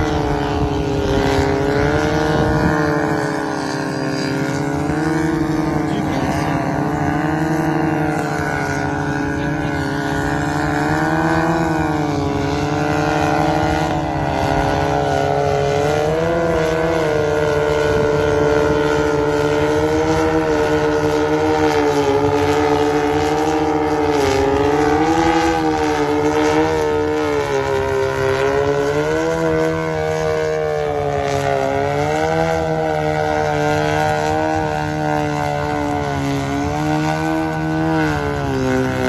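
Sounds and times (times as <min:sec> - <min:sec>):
drone propellers buzzing: 0:00.0 - 0:39.0.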